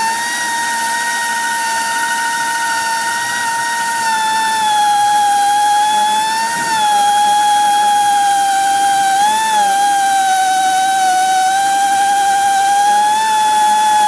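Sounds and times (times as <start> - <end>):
air drill whine: 0.0 - 14.0.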